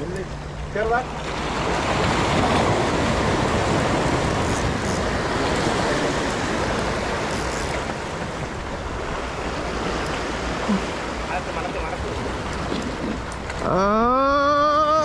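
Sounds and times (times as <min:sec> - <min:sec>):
sea surf washing on shore: 0:00.0 - 0:15.0
wind rumbling on microphone: 0:00.0 - 0:15.0.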